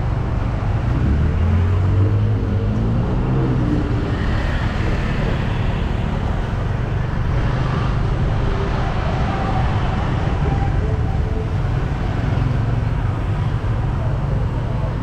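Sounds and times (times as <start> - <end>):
road and traffic noise: 0.0 - 15.0
vehicle driving low rumble: 0.0 - 15.0.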